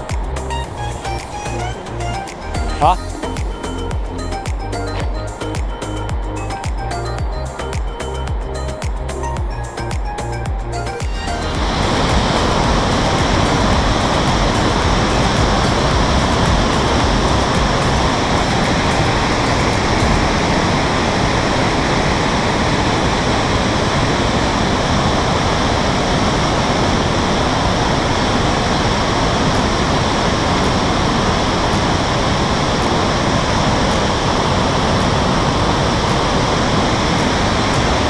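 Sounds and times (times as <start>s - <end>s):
river rushing over rocks: 0.0s - 38.0s.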